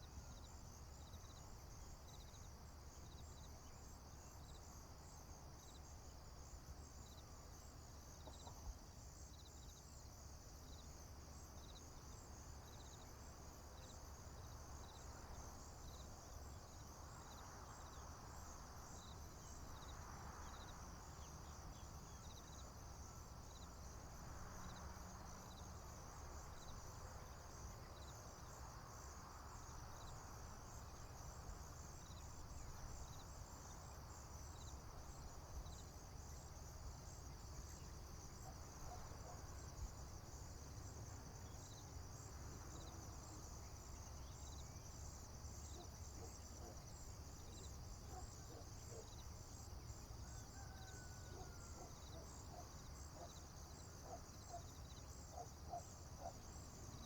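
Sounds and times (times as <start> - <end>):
insects trilling: 0.0 - 57.0
slow cricket chirp: 0.0 - 57.0.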